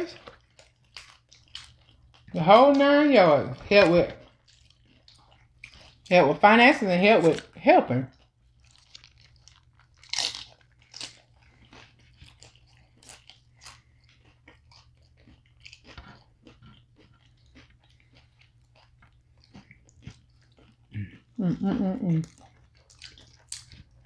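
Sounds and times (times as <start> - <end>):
crunching and chewing chips: 0.0 - 24.0
faint low hum: 0.0 - 24.0.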